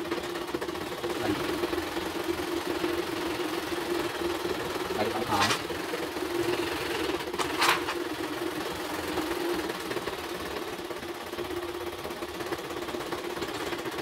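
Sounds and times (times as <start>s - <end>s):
embroidery machine rattling: 0.0s - 14.0s.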